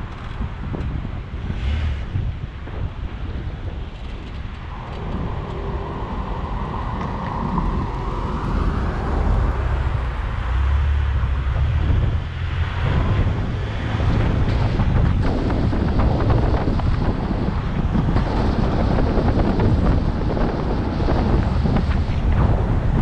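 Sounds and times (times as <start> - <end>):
car road rumble: 0.0 - 23.0
wind buffeting microphone: 0.0 - 23.0.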